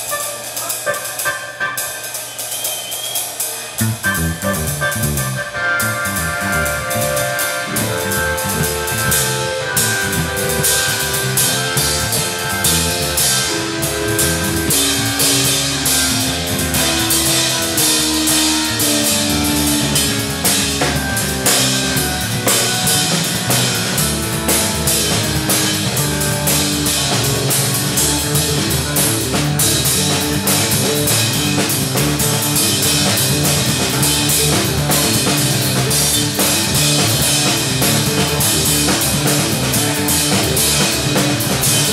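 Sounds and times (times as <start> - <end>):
drum kit beat: 0.0 - 41.9
electric bass: 3.7 - 41.9
electric organ: 3.8 - 41.9.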